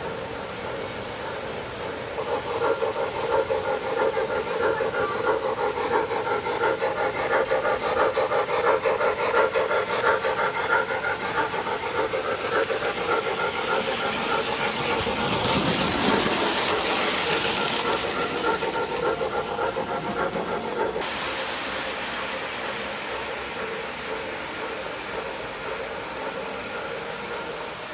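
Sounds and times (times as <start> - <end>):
model train humming: 0.0 - 27.9
wheels rumbling on track: 0.0 - 27.9.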